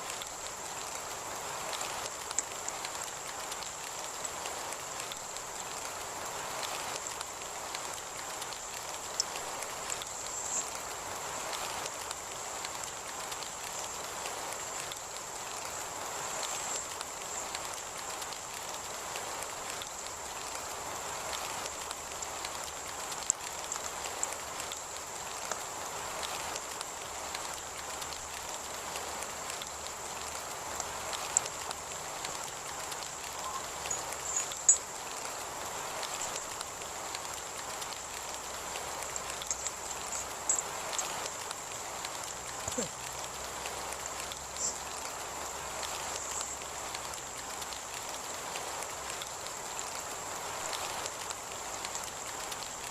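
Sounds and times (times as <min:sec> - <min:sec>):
heavy rain: 0:00.0 - 0:52.9
sharp raindrop ticks: 0:00.0 - 0:52.9.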